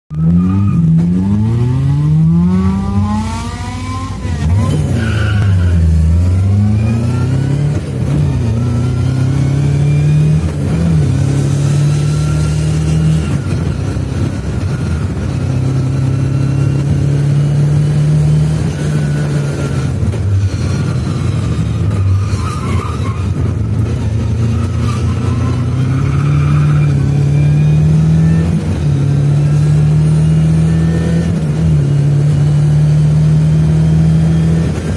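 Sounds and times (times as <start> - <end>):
car engine revving: 0.1 - 34.9.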